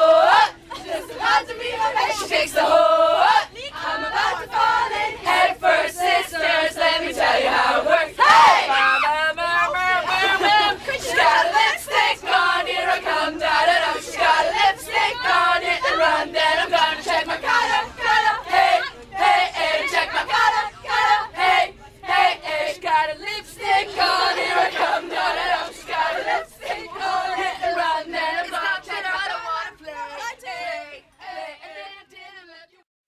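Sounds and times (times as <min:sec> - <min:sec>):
group singing unaccompanied: 0:00.0 - 0:32.8.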